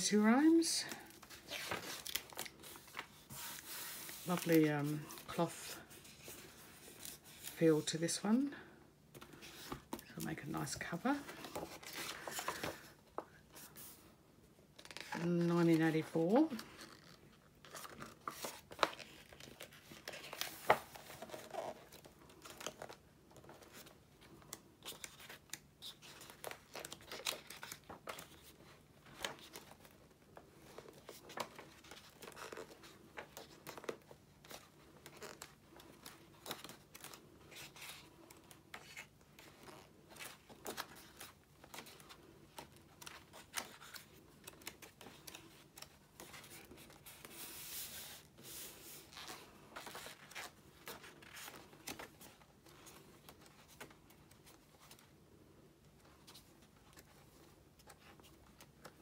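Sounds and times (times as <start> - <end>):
book pages turning: 0.1 - 14.1, 14.7 - 55.2.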